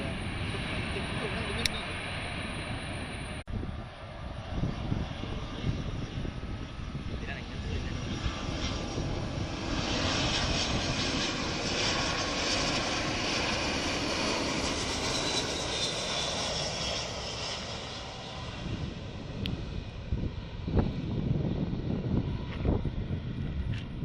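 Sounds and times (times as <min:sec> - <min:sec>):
airliner engine noise: 0:00.0 - 0:24.0
faint high engine whine: 0:00.0 - 0:24.0.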